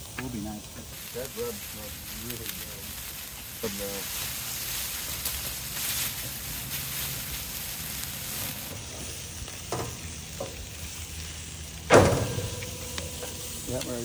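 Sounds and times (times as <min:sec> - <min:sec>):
chicken sizzling on grill: 0:00.0 - 0:14.0.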